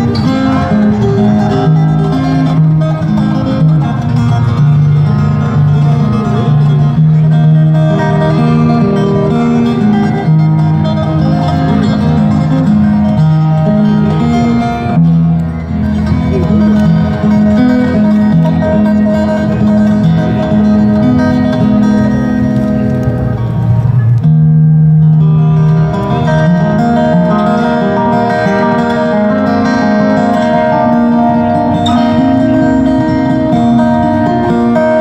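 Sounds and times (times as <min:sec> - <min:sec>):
acoustic guitar melody: 0:00.0 - 0:35.0.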